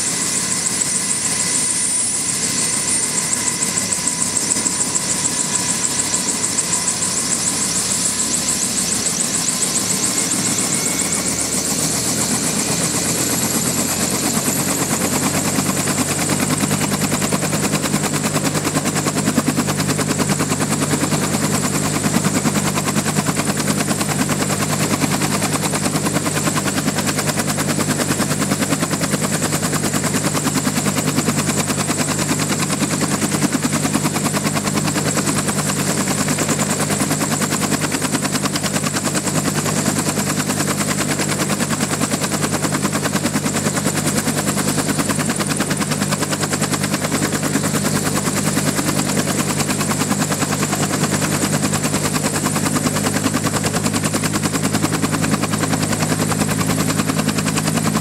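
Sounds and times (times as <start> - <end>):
helicopter rotor beating: 0.0 - 58.0
helicopter turbine whine: 0.0 - 58.0.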